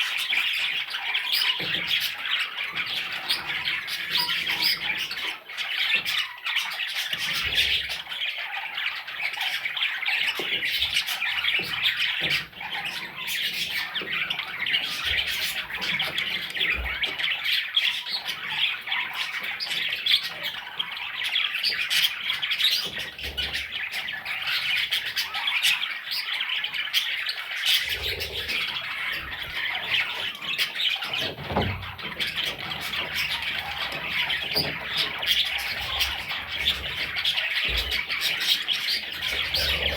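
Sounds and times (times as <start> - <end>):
budgerigar chicks squawking: 0.0 - 39.9.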